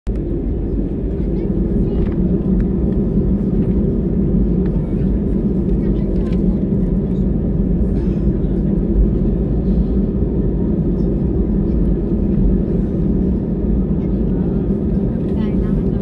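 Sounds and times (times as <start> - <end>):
airplane cabin engine rumble: 0.1 - 16.0.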